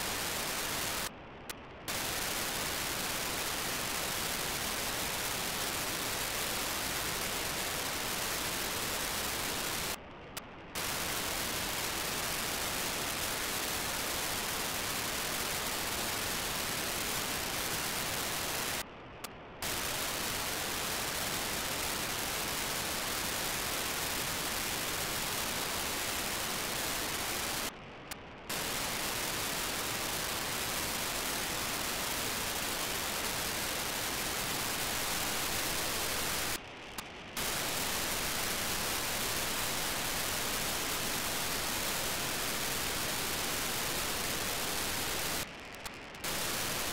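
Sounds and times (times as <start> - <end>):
radio receiver hiss: 0.0 - 1.1, 1.8 - 46.9
telemetry bursts quieting hiss: 0.0 - 46.9.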